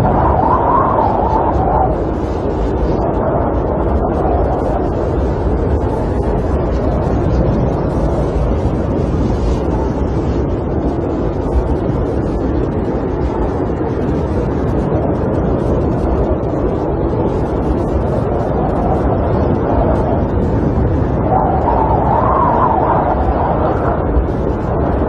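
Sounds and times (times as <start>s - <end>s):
wind rushing: 0.0s - 25.0s.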